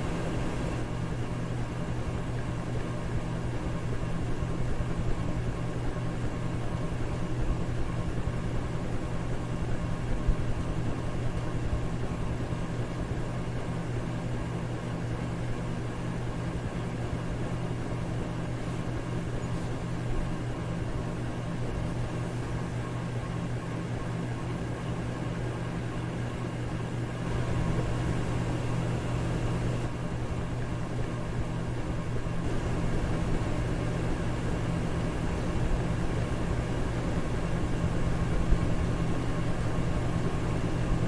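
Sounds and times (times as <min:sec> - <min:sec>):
low motor hum: 0:00.0 - 0:15.6, 0:16.2 - 0:41.0
electric fan air rush: 0:00.0 - 0:41.0.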